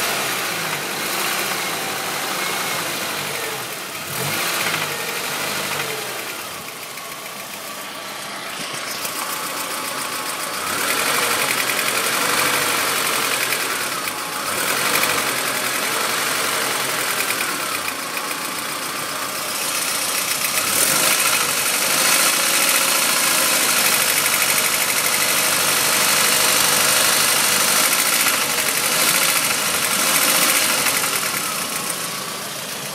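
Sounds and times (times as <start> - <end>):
car engine revving: 0.0 - 32.9
engine knocking: 0.0 - 32.9.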